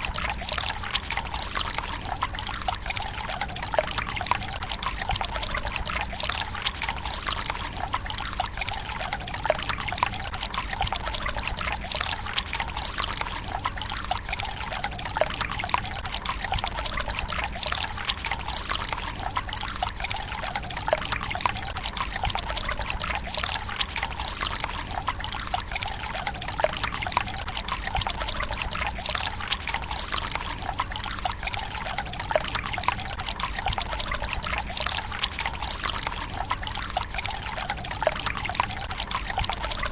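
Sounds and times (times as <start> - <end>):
water trickling into stone basin: 0.0 - 39.9.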